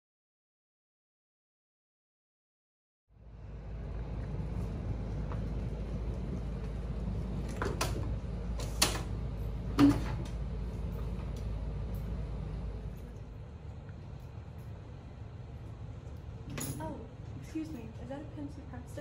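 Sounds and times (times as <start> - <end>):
low room hum: 3.1 - 19.0.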